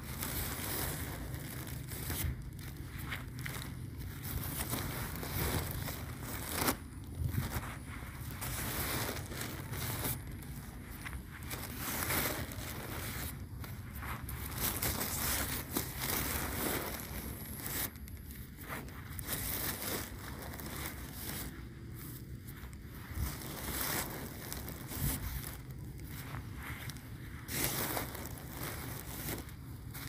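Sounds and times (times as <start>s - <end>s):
footsteps crunching through dry grass: 0.0s - 30.0s
wind rumbling on microphone: 0.0s - 30.0s.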